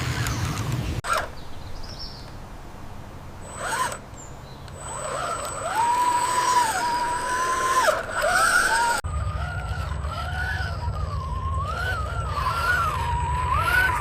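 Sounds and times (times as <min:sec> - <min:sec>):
small electric motor whine: 0:00.0 - 0:01.4, 0:03.4 - 0:14.0.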